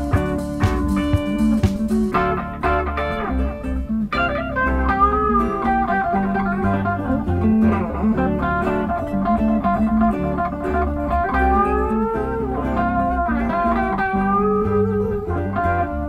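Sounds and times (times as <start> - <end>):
bass line: 0.0 - 16.0
blues guitar music: 0.0 - 16.0.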